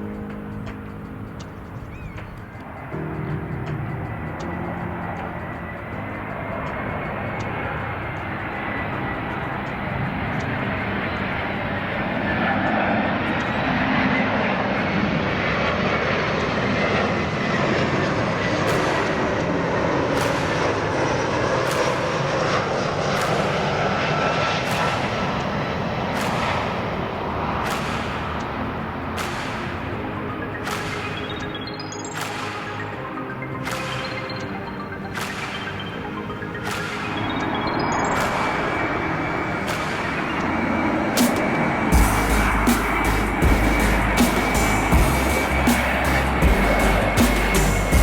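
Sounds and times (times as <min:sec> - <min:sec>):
jet engines whining: 0:00.0 - 0:48.0.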